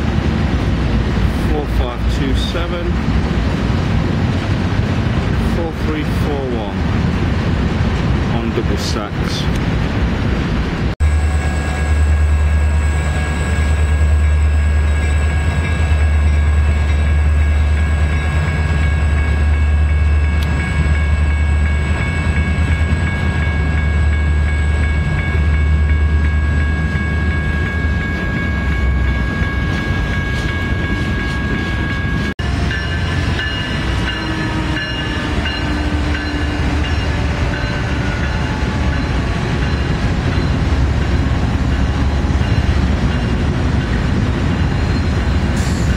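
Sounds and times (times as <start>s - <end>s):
diesel locomotive engine rumble: 0.0s - 45.9s
high locomotive whines: 0.0s - 45.9s.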